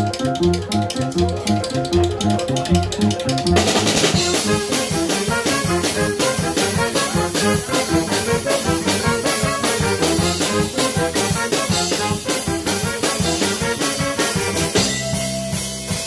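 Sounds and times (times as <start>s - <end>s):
saxophone section: 0.0s - 15.4s
keyboard: 0.0s - 16.0s
steady beat: 0.0s - 16.0s
trumpet: 0.0s - 16.0s.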